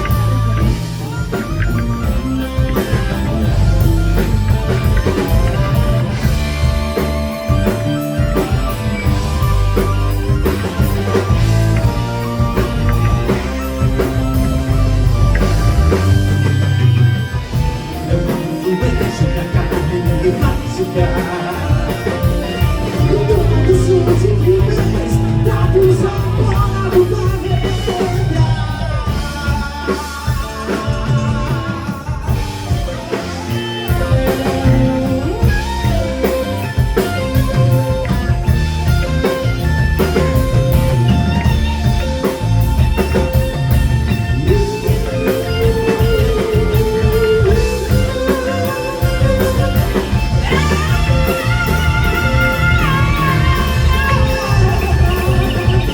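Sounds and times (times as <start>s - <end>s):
bending lead guitar line: 0.0s - 55.9s
live rock band playing: 0.0s - 55.9s.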